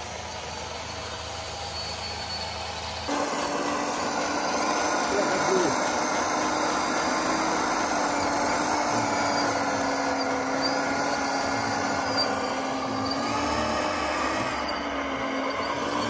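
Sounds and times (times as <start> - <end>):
busy mechanical background: 0.0 - 16.0
small electric motor whining: 0.0 - 16.0.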